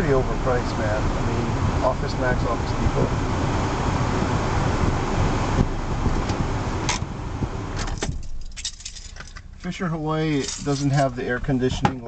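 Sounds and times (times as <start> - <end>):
car engine and ventilation fan: 0.0 - 12.0.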